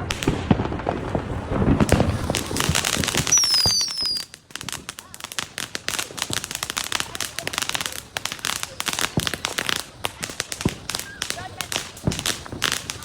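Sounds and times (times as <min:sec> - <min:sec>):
firework whistles: 0:00.0 - 0:13.0
fireworks crackling and popping: 0:00.0 - 0:13.0.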